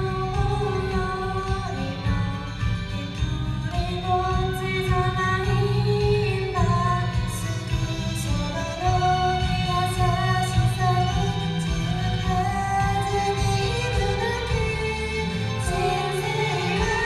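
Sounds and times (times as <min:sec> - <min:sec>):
instrumental accompaniment: 0:00.0 - 0:17.0
woman singing pop song: 0:00.0 - 0:17.0.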